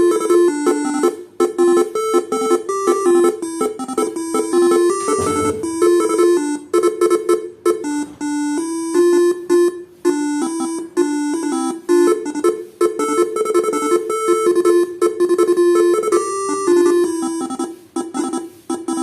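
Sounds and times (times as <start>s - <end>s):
electronic horn melody: 0.0s - 19.0s.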